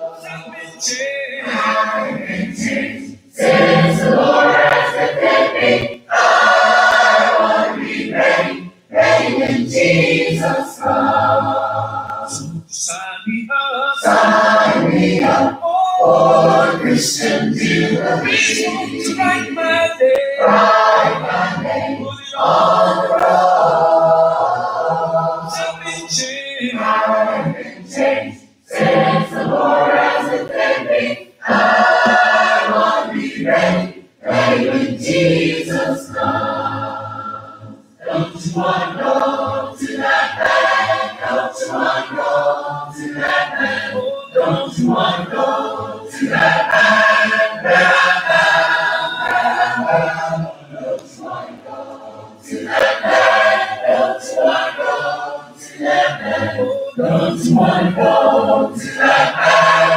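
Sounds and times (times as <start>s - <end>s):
group singing unaccompanied: 0.0s - 59.9s
lead voice singing: 0.0s - 59.9s.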